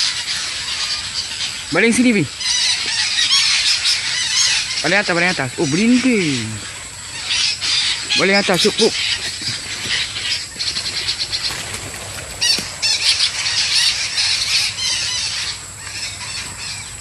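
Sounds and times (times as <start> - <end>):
parakeets squealing: 0.0 - 17.0.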